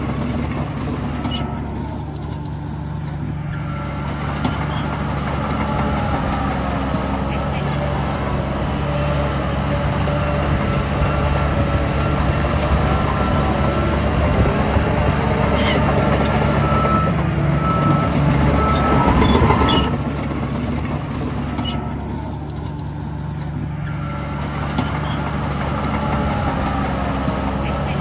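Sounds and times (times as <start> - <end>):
heavy machinery diesel engines: 0.0 - 28.0.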